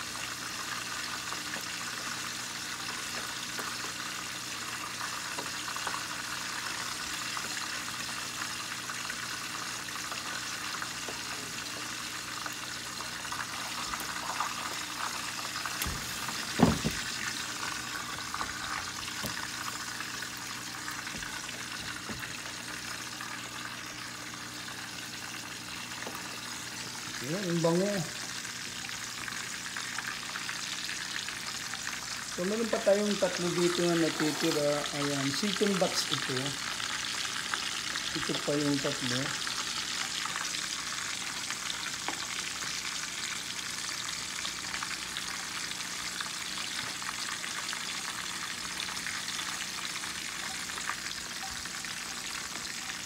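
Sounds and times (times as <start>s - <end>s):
meat sizzling in hot oil: 0.0s - 53.0s.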